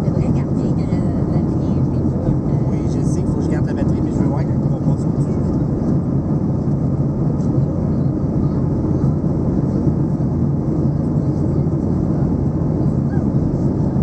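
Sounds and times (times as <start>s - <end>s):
airliner cabin engine rush: 0.0s - 14.0s
constant low hum: 0.0s - 14.0s.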